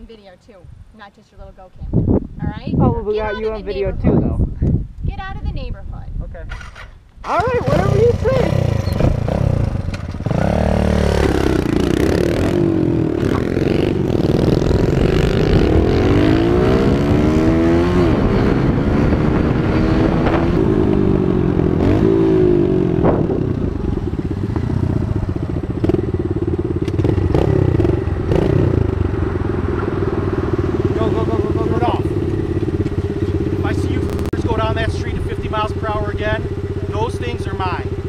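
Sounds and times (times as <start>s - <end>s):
wind noise: 0.0s - 36.1s
dirt bike engine revving: 6.6s - 38.0s.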